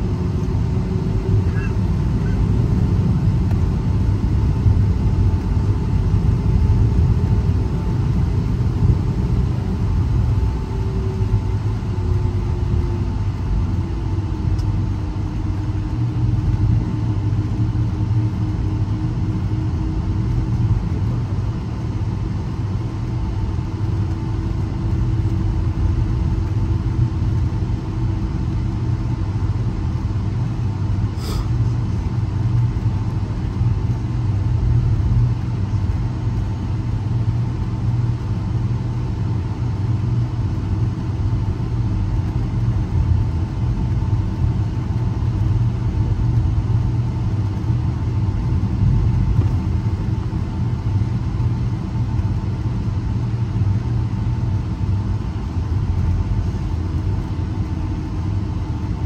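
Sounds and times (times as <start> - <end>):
aircraft engines idling rumble: 0.0 - 59.0
steady cabin hum: 0.0 - 59.0.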